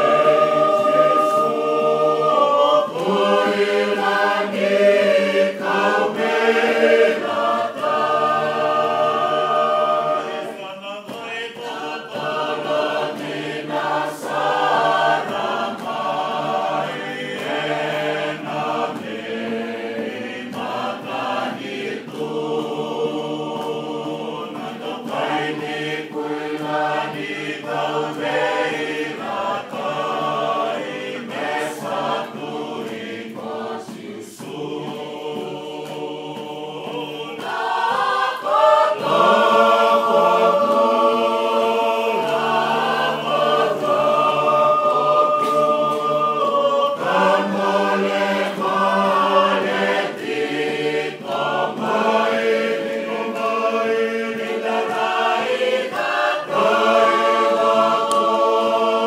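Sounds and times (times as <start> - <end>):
group singing in harmony: 0.0 - 59.0.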